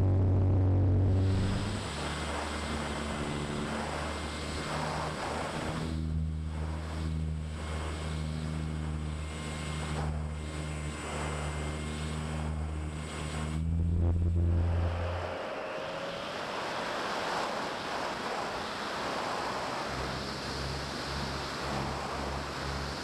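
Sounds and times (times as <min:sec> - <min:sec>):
model plane propeller motor: 0:00.0 - 0:23.0
wind rushing over microphone: 0:00.0 - 0:23.0.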